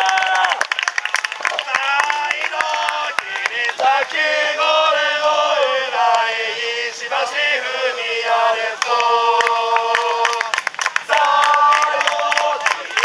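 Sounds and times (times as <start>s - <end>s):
crowd chanting a song: 1.8s - 13.0s.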